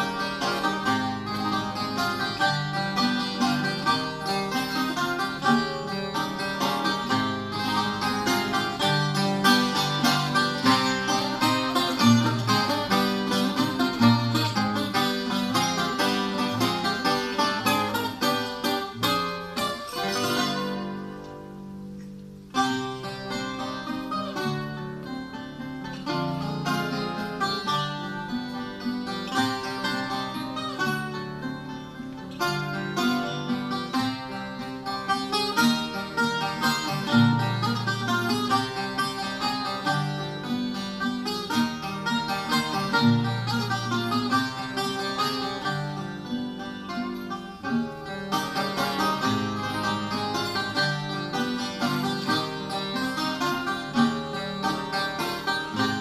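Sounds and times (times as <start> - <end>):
classical guitar bass notes: 0.0 - 56.0
portuguese guitar plucked melody: 0.0 - 56.0.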